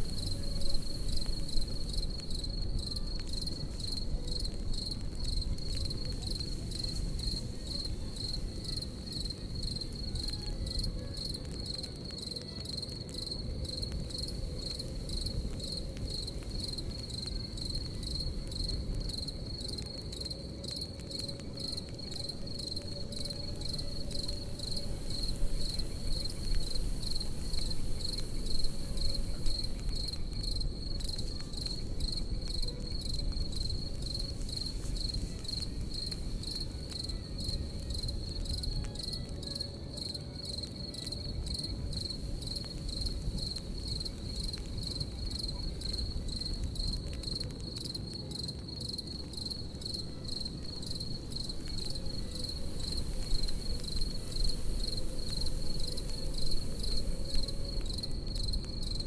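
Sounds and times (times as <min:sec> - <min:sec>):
campfire crackling: 0:00.0 - 0:59.0
crickets chirping: 0:00.0 - 0:59.0.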